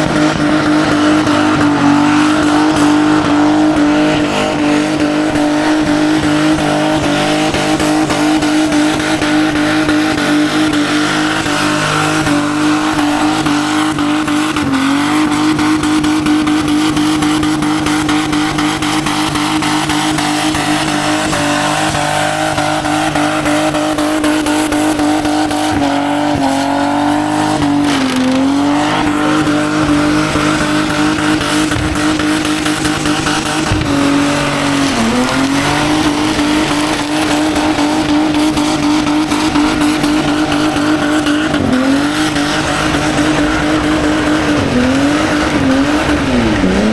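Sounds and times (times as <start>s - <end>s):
car engine revving high: 0.0s - 46.9s.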